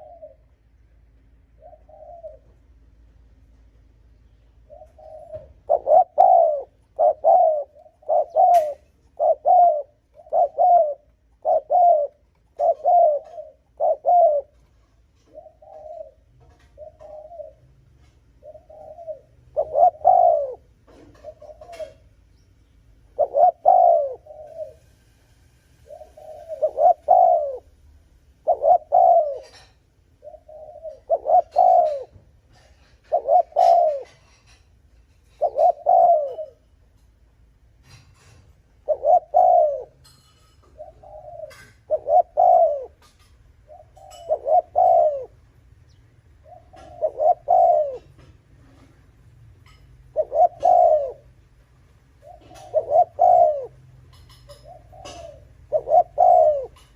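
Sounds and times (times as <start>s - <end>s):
dove cooing: 0.0s - 22.2s, 22.9s - 37.0s, 37.8s - 56.9s.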